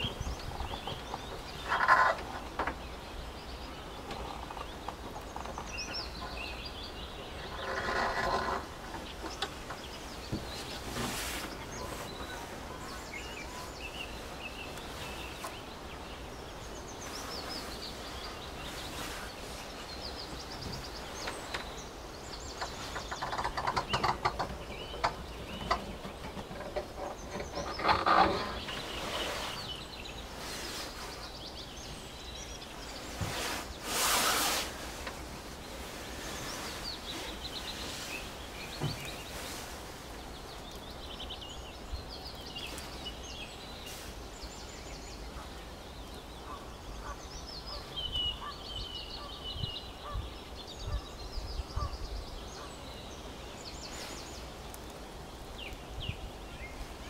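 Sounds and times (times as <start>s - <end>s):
rapidly repeated bird calls: 0.0s - 57.0s
small birds chirping: 0.0s - 57.0s
steady background hiss: 0.0s - 57.0s.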